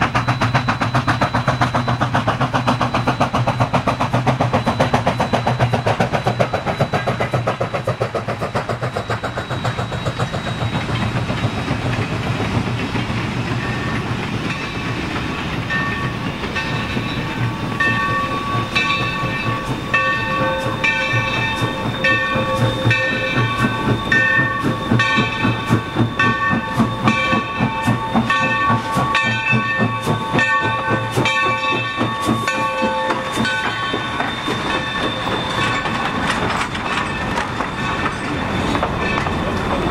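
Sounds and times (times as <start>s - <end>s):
locomotive bell ringing: 0.0s - 39.9s
steam locomotive chuffing: 0.0s - 39.9s
train rolling rumble: 0.0s - 39.9s.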